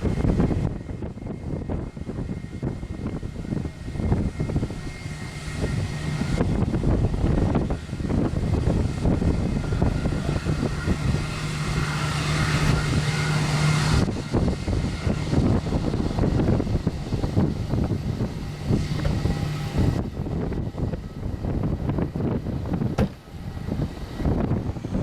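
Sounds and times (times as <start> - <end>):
engine rumbling: 0.0 - 25.0
steady low hum: 0.0 - 25.0.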